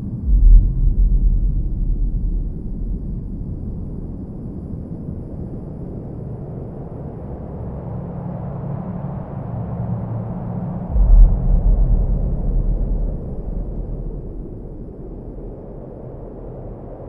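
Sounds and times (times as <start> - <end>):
deep sustained tones: 0.0 - 8.1, 8.8 - 17.0
low rumbling drone: 0.0 - 17.0.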